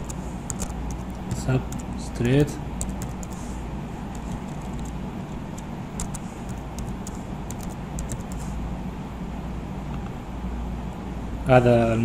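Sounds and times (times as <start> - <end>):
low background rumble: 0.0 - 11.4.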